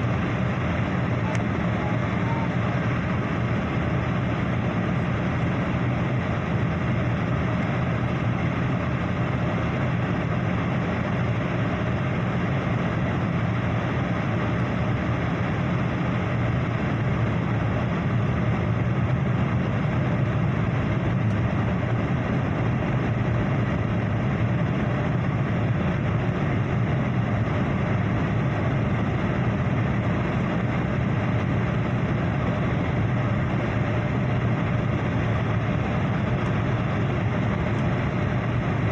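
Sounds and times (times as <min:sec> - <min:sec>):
airliner engine drone in cabin: 0:00.0 - 0:38.9.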